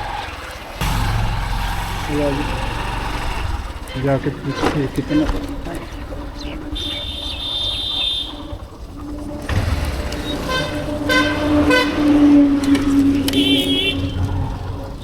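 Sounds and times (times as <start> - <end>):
engine hum and road noise: 0.0 - 15.0
vehicle horns beeping: 0.8 - 15.0.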